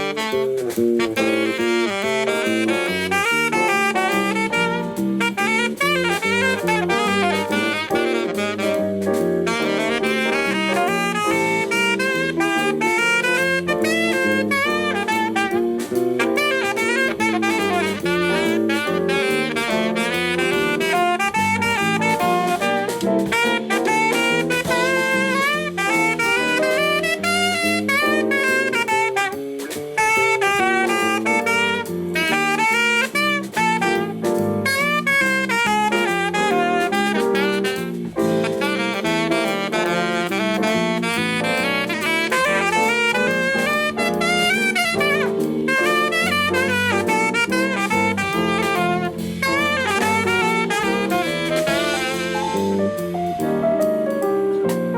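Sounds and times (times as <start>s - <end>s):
live jazz band playing: 0.0s - 54.9s.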